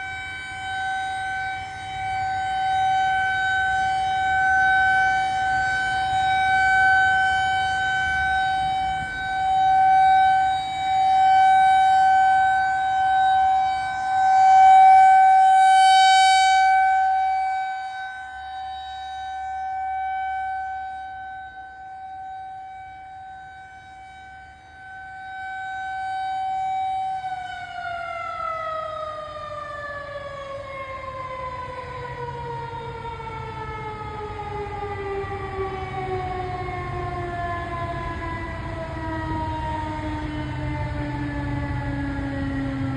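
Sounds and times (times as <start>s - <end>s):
rotating siren steady tone: 0.0s - 42.9s.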